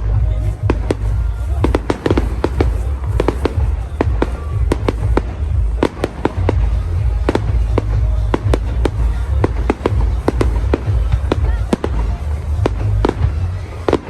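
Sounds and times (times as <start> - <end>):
constant low rumble: 0.0 - 14.0
fireworks bangs and cracks: 0.0 - 14.0.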